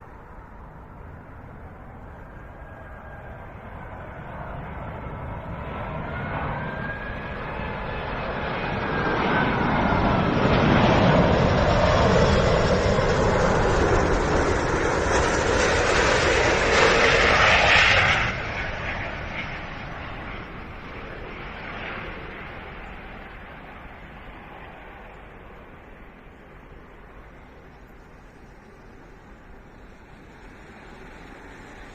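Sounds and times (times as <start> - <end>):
jet engines roaring: 0.0 - 31.9.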